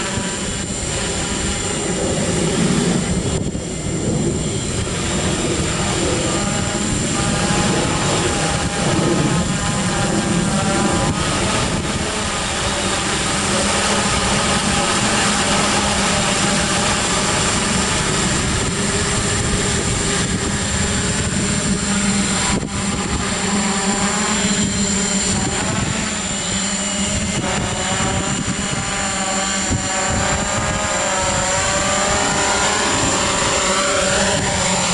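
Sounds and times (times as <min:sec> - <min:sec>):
drone propellers buzzing: 0:00.0 - 0:34.9.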